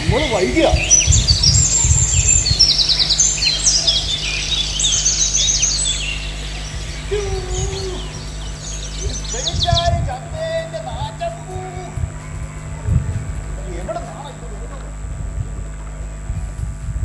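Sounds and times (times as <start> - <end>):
birds chirping and trilling: 0.0 - 17.0
steady low hum: 0.0 - 17.0.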